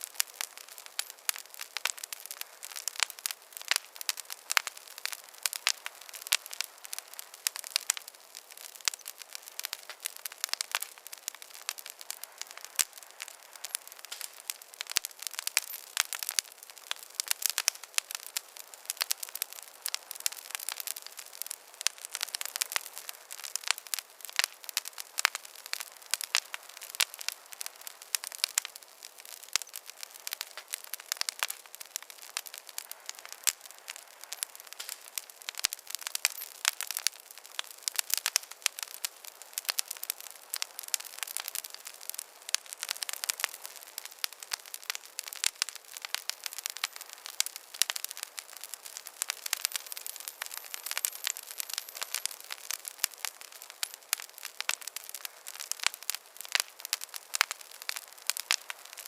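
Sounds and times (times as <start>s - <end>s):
campfire crackling: 0.0s - 59.0s
faint hiss: 0.0s - 59.0s.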